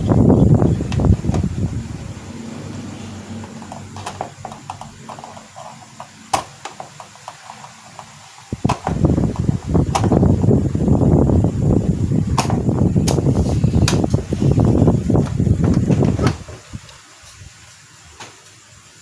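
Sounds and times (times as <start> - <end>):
projector fan air rush: 0.0 - 19.0.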